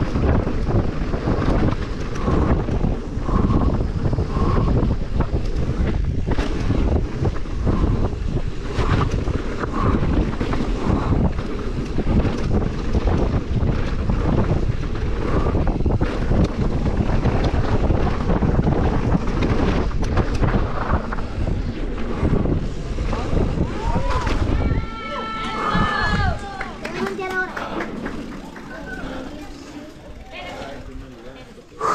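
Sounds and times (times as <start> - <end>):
bike rattles and knocks: 0.0 - 31.8
bike tyres rumbling on dirt: 0.0 - 31.9
wind buffeting microphone: 0.0 - 31.9.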